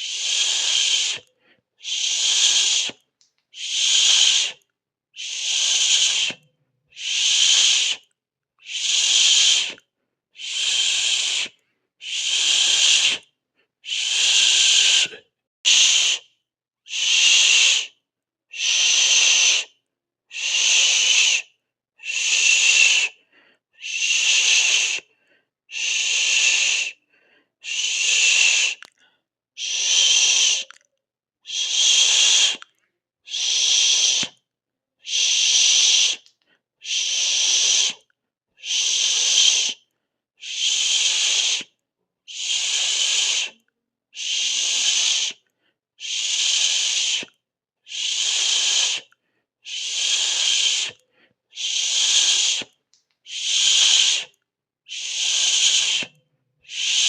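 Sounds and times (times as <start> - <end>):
person hissing: 0.0 - 3.0, 3.6 - 4.6, 5.2 - 9.8, 10.4 - 16.3, 16.9 - 23.2, 23.8 - 27.0, 27.6 - 29.0, 29.6 - 30.8, 31.5 - 32.7, 33.3 - 34.4, 35.0 - 38.0, 38.6 - 39.8, 40.4 - 43.6, 44.2 - 45.4, 46.0 - 57.0.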